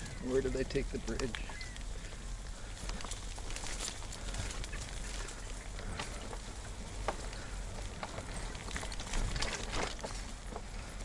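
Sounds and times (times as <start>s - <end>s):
bike tyres crackling over twigs: 0.0s - 11.0s.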